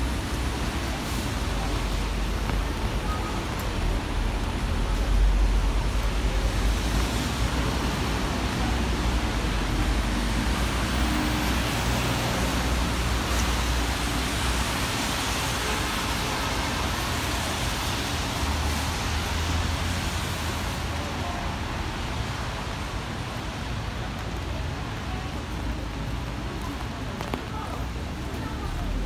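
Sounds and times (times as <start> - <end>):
heavy rain falling: 0.0 - 29.0
low rumble of road traffic: 0.0 - 29.0.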